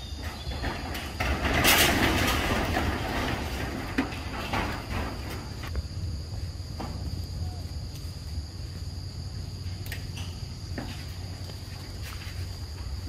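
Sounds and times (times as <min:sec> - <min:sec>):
insects whining: 0:00.0 - 0:13.0.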